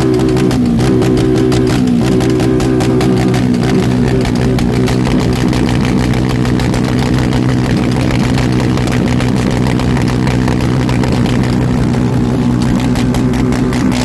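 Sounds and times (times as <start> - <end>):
motorcycle engine on rev limiter: 0.0 - 14.0.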